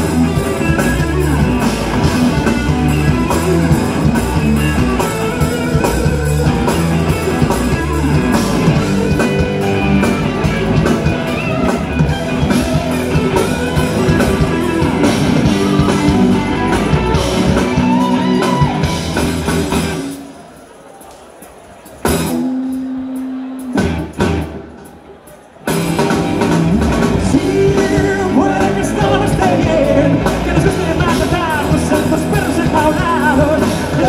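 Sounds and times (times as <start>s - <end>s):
drum kit: 0.0s - 20.4s, 21.9s - 34.0s
electric guitars: 0.0s - 20.5s, 21.9s - 34.0s.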